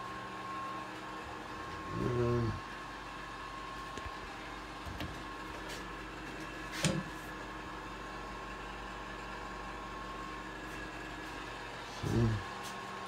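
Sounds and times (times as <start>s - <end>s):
room hum with faint high tones: 0.0s - 13.0s.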